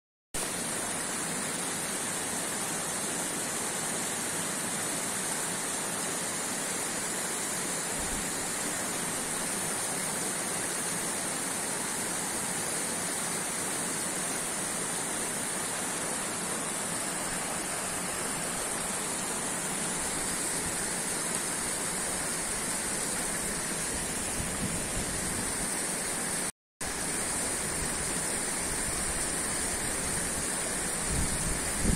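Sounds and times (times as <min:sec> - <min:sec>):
waterfall rushing onto rocks: 0:00.4 - 0:31.9.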